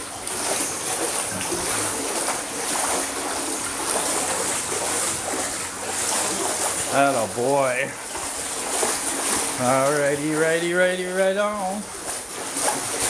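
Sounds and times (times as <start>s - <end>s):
dog paddling in pool water: 0.0s - 13.0s.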